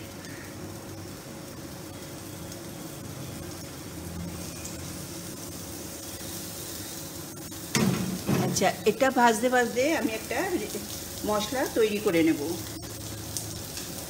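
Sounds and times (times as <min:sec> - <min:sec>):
vegetable slices sizzling in oil: 0:00.0 - 0:14.0.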